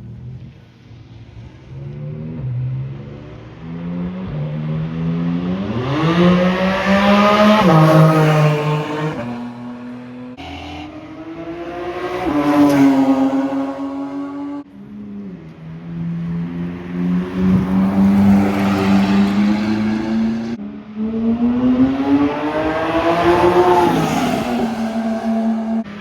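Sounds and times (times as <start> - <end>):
car engine accelerating hard: 1.4 - 26.0.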